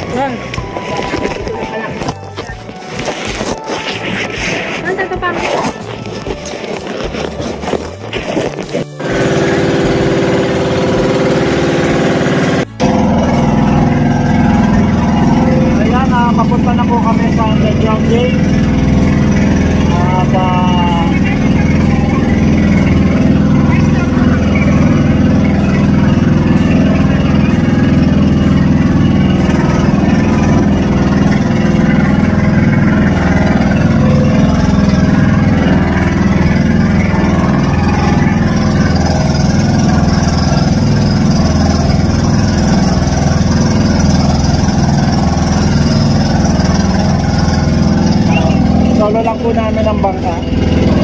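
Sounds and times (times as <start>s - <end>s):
boat engine running: 0.0s - 51.0s.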